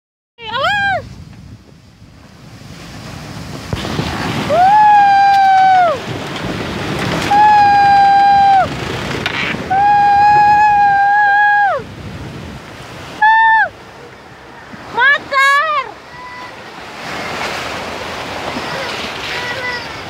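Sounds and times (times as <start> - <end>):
ocean waves breaking: 0.4 - 20.0.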